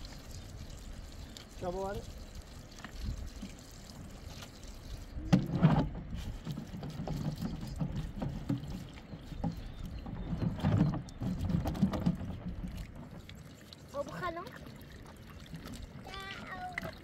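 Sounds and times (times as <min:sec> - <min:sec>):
water pouring into plastic can: 0:00.0 - 0:17.0.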